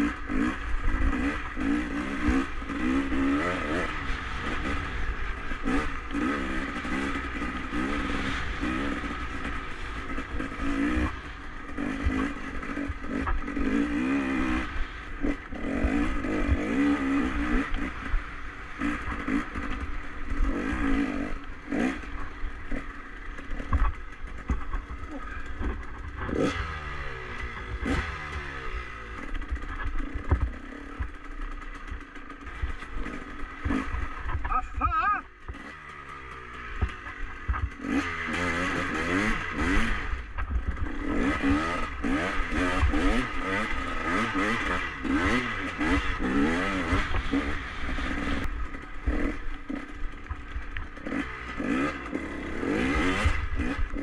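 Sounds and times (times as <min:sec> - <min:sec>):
clatter over bumps: 0:00.0 - 0:14.1, 0:14.7 - 0:54.0
motorcycle engine revving: 0:00.0 - 0:54.0.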